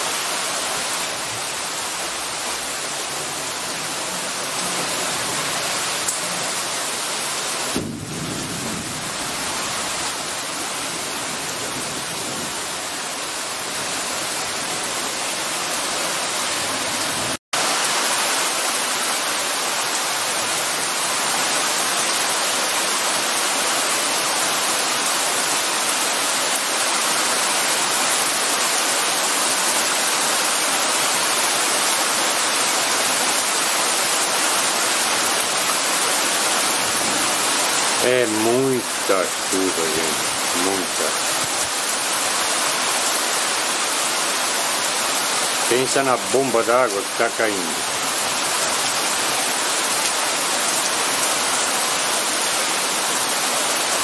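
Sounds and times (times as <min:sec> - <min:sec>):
heavy rain on street: 0:00.0 - 0:54.0.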